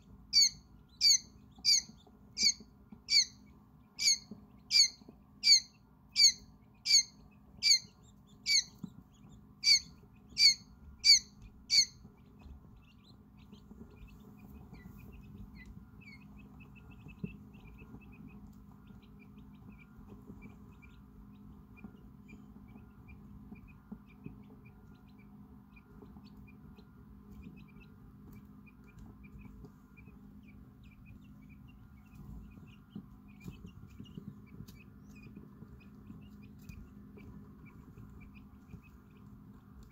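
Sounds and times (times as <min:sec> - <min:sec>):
chicks peeping sharply: 0:00.0 - 0:39.9
low steady hum: 0:00.0 - 0:39.9
soft chick cheeping: 0:00.0 - 0:39.9.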